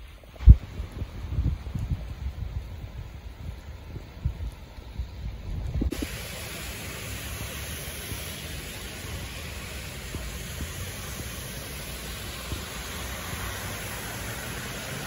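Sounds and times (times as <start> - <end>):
heavy rain on water: 0.0 - 15.0.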